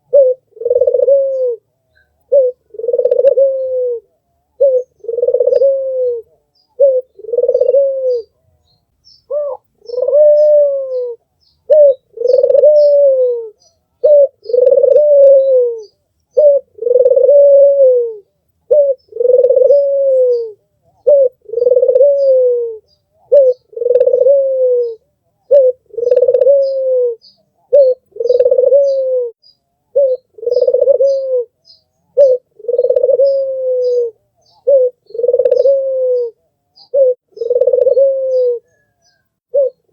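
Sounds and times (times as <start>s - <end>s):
small birds chirping: 0.0s - 17.6s, 18.2s - 39.9s
dove cooing: 0.0s - 39.9s.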